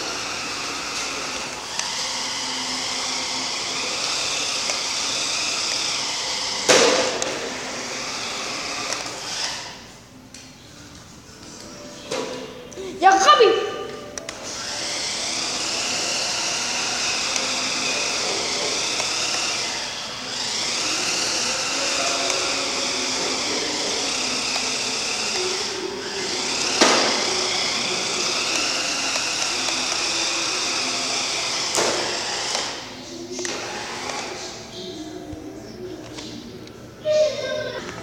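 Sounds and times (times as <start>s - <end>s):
toy truck electric motor whining: 0.0s - 10.5s, 14.2s - 36.3s.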